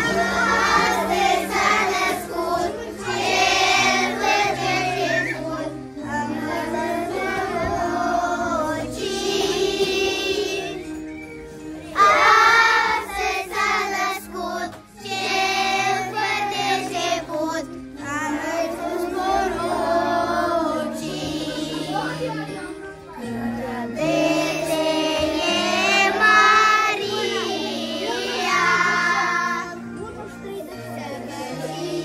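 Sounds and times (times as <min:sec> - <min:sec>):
girls singing together: 0:00.0 - 0:11.0, 0:11.9 - 0:22.3, 0:23.2 - 0:29.9, 0:30.7 - 0:32.0
instrumental backing track: 0:00.0 - 0:32.0.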